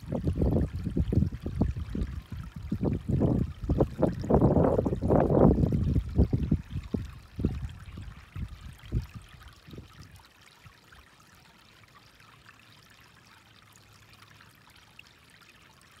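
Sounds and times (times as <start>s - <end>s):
stream water trickling over rock: 0.0s - 16.0s.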